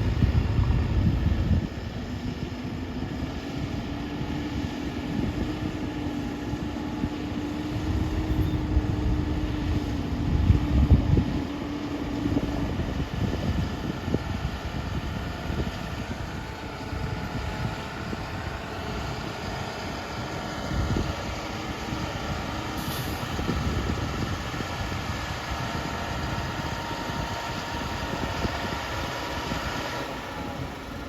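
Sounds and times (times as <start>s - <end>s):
diesel engine rumbling: 0.0s - 31.0s.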